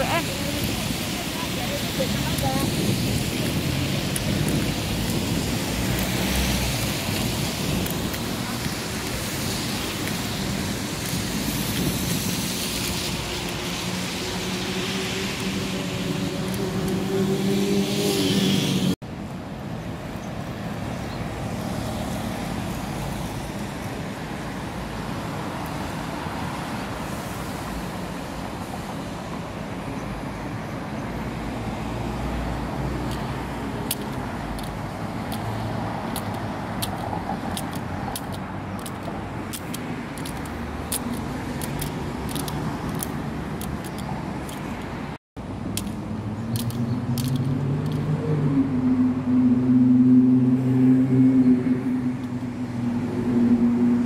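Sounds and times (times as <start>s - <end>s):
city traffic: 0.0s - 54.0s.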